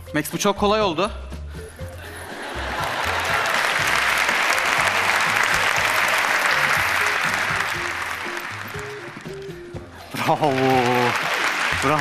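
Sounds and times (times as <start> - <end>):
audience applauding: 2.2 - 12.0.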